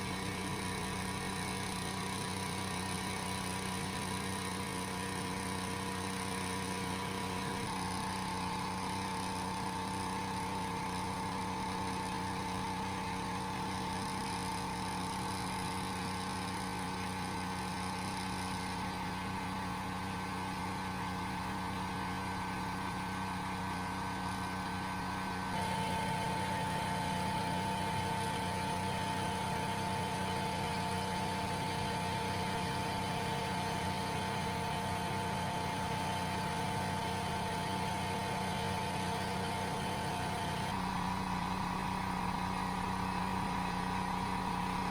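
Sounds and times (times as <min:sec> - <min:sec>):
air compressor running: 0:00.0 - 0:44.9.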